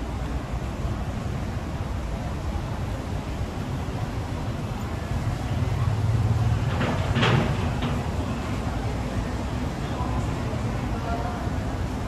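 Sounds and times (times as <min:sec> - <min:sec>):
road traffic rumble: 0:00.0 - 0:12.0
vehicle engine: 0:01.0 - 0:12.0.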